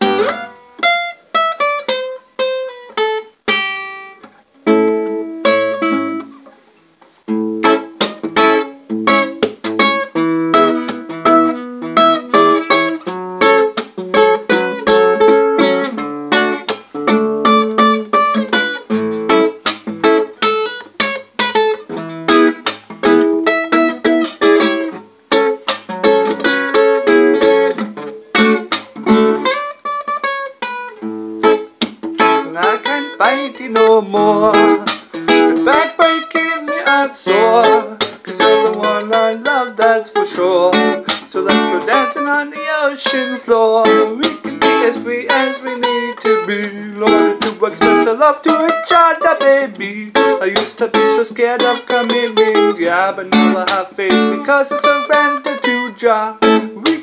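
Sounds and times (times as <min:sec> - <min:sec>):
classical guitar fingerpicked: 0:00.0 - 0:57.0.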